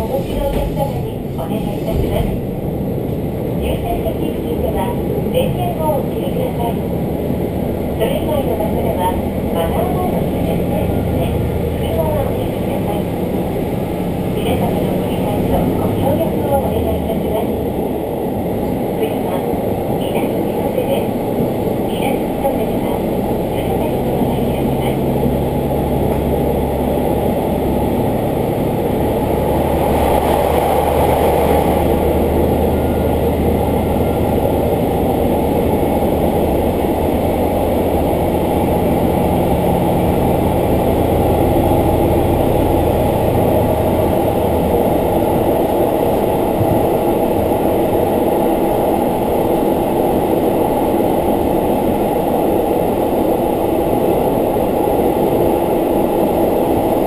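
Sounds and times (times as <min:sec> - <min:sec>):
railcar engine hum: 0:00.0 - 0:57.0
wheels rumbling on rails: 0:00.0 - 0:57.0.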